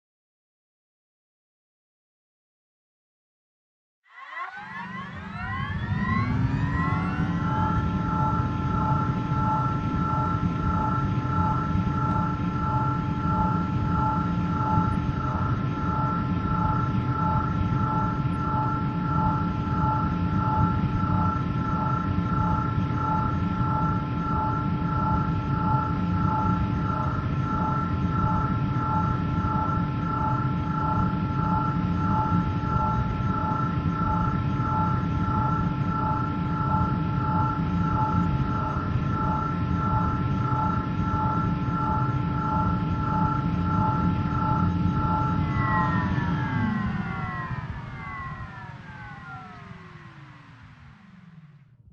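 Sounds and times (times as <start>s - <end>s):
hovering craft engine drone: 4.1s - 51.9s.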